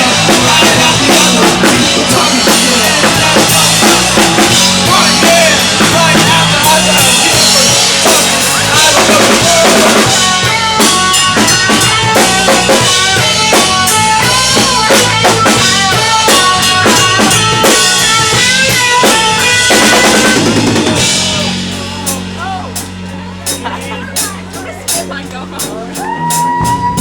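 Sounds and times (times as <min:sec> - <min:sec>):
live rock band playing: 0:00.0 - 0:27.0
rapid snare and bass drum hits: 0:00.0 - 0:27.0.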